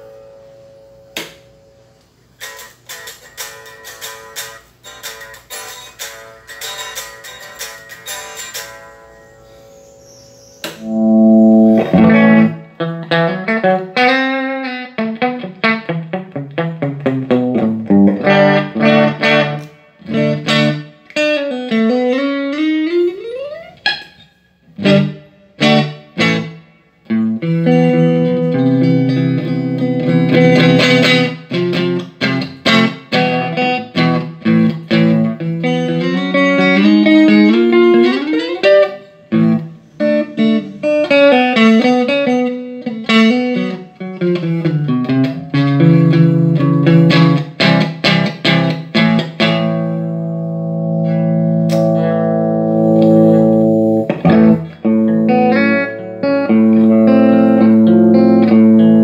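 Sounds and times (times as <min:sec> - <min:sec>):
electric guitar: 0:00.0 - 0:59.0.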